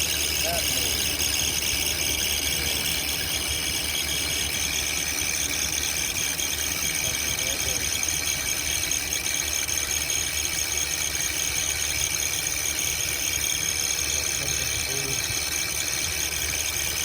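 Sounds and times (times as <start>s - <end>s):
high-pitched chirping from belt: 0.0s - 17.0s.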